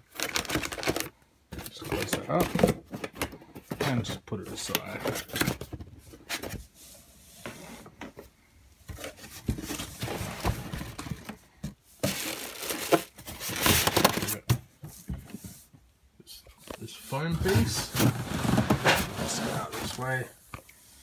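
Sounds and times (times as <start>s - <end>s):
cardboard and foam rustling: 0.0s - 15.8s, 16.6s - 20.5s.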